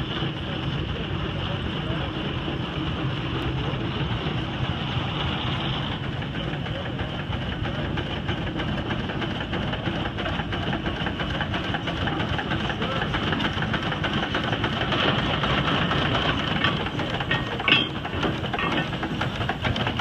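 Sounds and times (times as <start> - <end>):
steam engine exhaust chuffing: 0.0 - 20.0.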